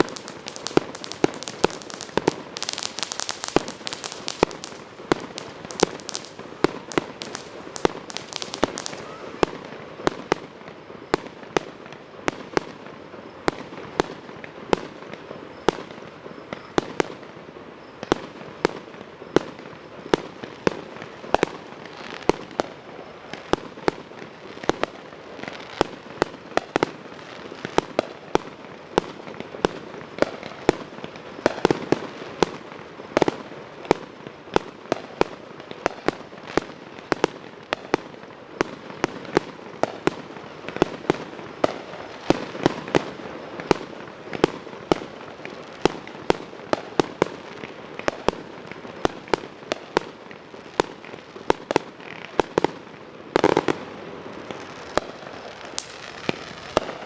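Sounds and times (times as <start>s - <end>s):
fireworks bangs and pops: 0.0s - 57.0s.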